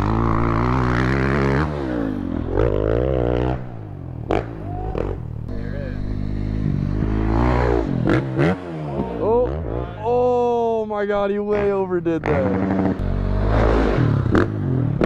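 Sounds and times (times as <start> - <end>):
dirt bike engine revving: 0.0 - 10.6, 11.4 - 15.0.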